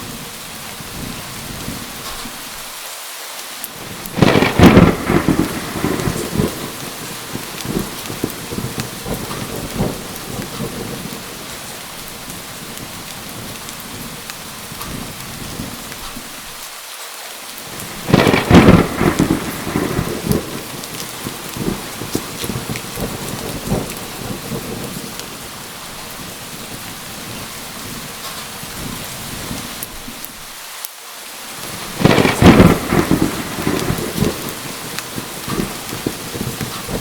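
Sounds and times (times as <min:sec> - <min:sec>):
steady rain: 0:00.0 - 0:37.0
thunderclaps: 0:03.8 - 0:16.3, 0:17.7 - 0:30.4, 0:31.6 - 0:37.0.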